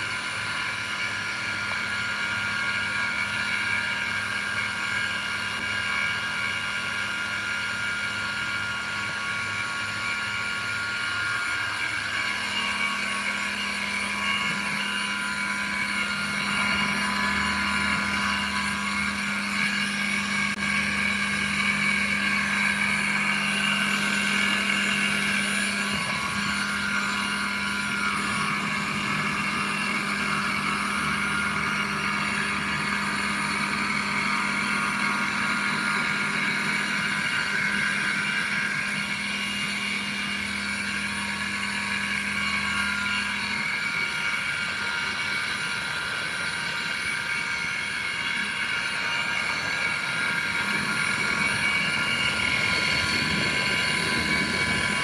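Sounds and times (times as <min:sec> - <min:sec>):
electric motors humming: 0:00.0 - 0:55.0
high whining tones: 0:07.2 - 0:55.0.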